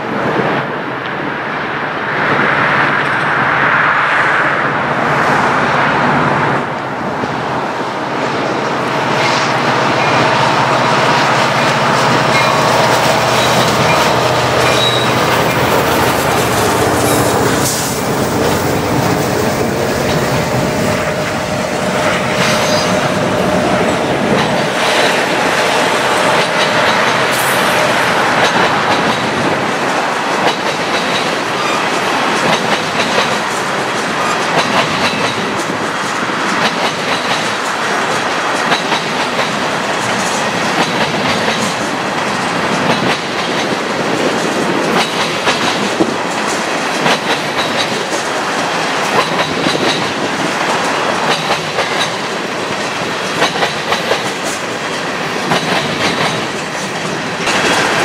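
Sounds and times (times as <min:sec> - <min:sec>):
rumble of train wheels on rail: 0:00.0 - 0:58.0
clickety-clack over rail joints: 0:08.0 - 0:58.0.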